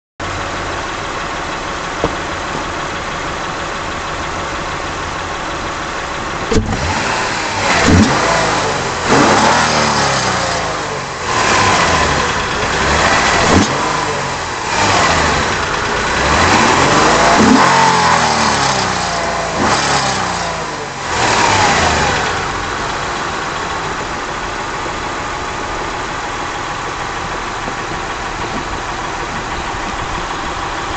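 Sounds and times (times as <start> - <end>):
car engine idling and revving: 0.2 - 30.9.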